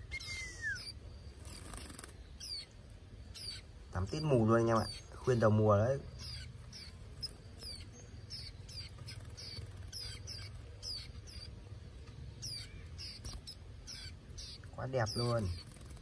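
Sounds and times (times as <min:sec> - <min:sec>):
faint low hum: 0:00.0 - 0:16.0
young birds chirping: 0:00.0 - 0:16.0.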